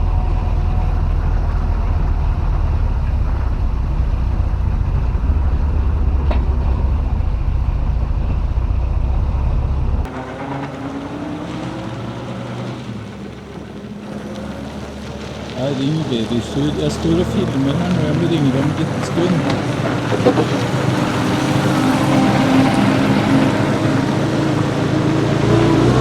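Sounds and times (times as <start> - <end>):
car engine accelerating: 0.0 - 26.0
car engine and road rumble: 0.0 - 26.0.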